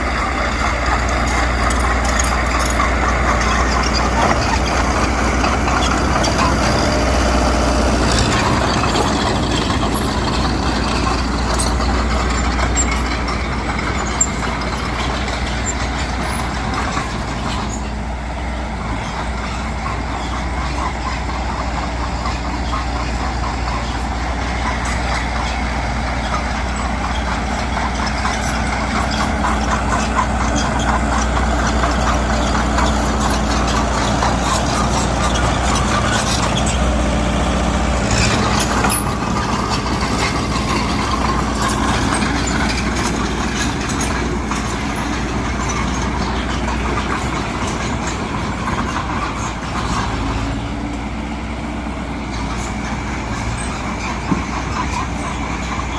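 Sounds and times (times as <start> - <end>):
diesel earthmoving machines running: 0.0 - 55.9
metal clanks and rattles: 0.0 - 55.9.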